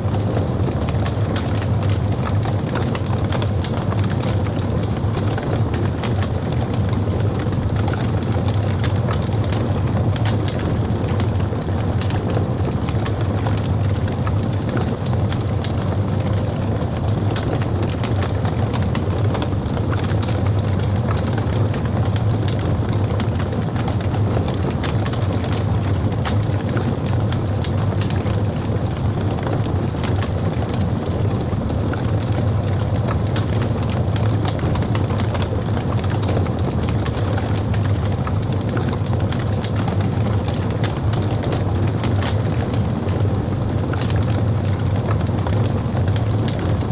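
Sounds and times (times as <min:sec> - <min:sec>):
fire crackling and popping: 0:00.0 - 0:46.9.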